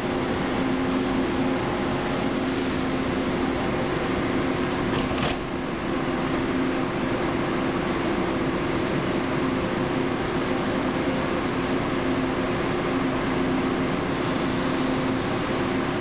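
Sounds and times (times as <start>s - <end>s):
train air-conditioning hum: 0.0s - 16.0s.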